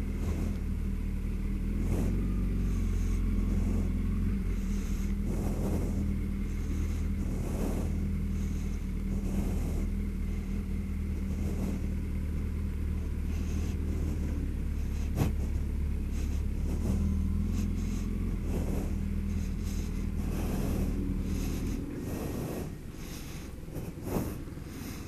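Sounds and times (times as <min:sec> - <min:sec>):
motorcycle engine at low revs: 0:00.0 - 0:25.0
soft rushing sound: 0:00.0 - 0:25.0.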